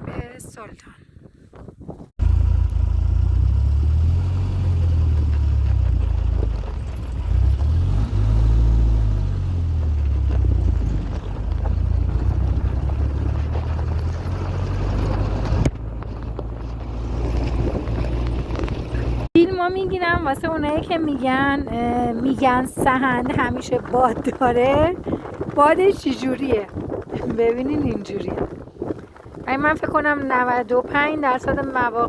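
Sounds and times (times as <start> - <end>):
wind buffeting microphone: 0.0 - 2.1, 5.9 - 32.0.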